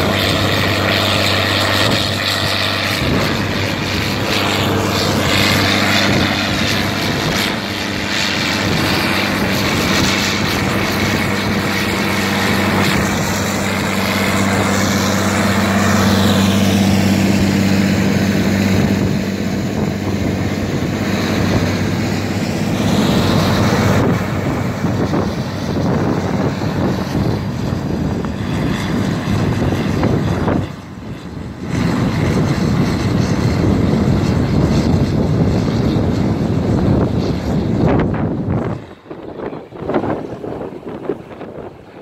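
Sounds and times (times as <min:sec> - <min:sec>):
tractor diesel engine droning: 0:00.0 - 0:42.0.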